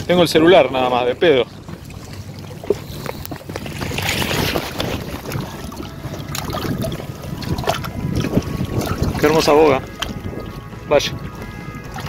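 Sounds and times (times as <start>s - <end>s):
river water washing against rocks: 0.0s - 10.5s
wind rumbling on microphone: 0.0s - 12.0s.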